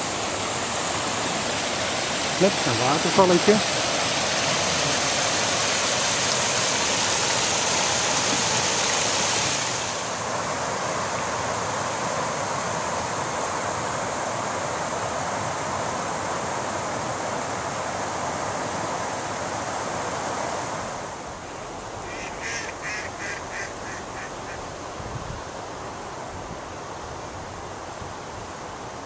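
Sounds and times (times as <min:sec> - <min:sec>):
water rushing over weir: 0:00.0 - 0:26.4.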